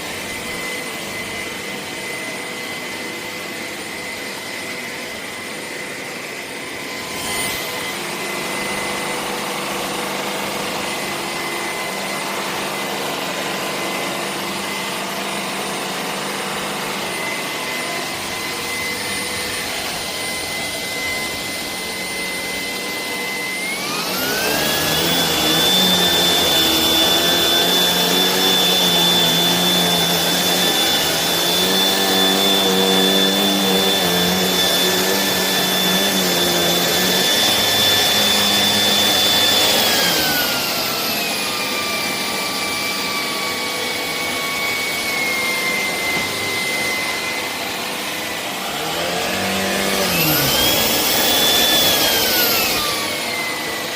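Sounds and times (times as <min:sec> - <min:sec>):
vacuum motor whine: 0:00.0 - 0:53.9.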